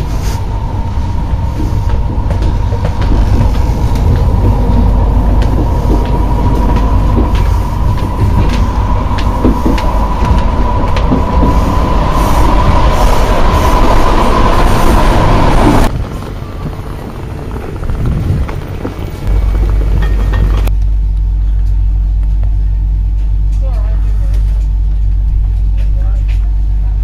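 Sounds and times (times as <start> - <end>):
high whine: 0.0 - 27.0
wheels rumbling on rail: 0.0 - 27.0.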